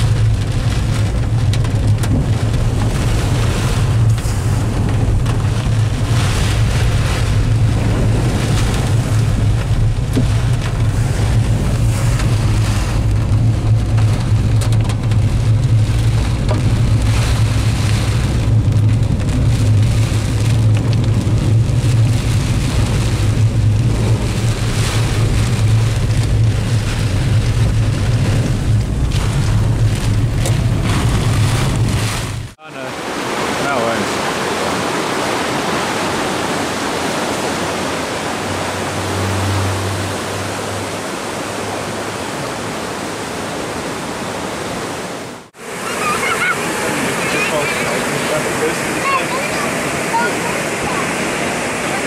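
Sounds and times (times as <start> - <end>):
heavy rain drumming on a car: 0.0 - 52.0
low engine and road rumble: 0.0 - 52.0
tyres splashing through water: 0.0 - 52.0.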